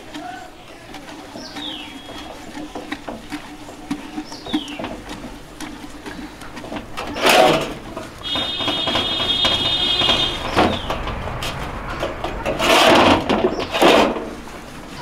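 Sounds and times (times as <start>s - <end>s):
water sloshing in basin: 0.0s - 15.0s
pot scraping and knocking in basin: 0.9s - 14.5s.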